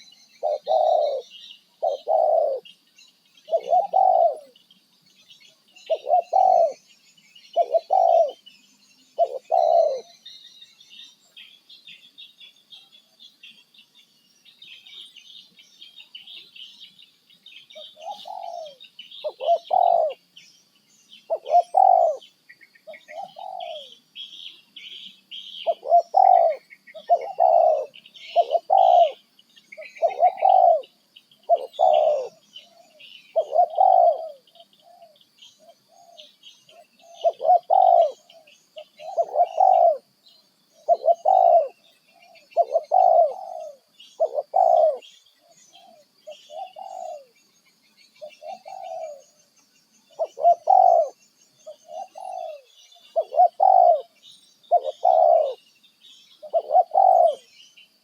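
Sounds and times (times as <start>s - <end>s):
high bird chirping: 0.0s - 58.0s.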